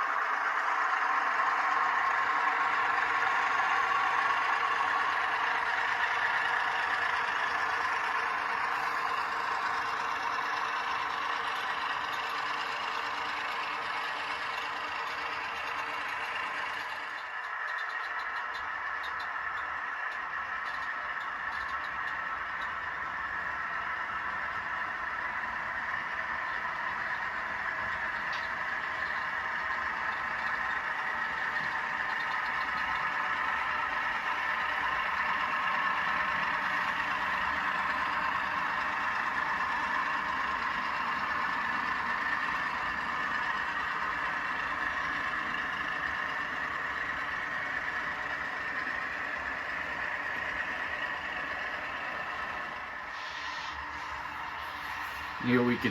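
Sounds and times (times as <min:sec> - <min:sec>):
diesel engine through small speakers: 0:00.0 - 0:55.9.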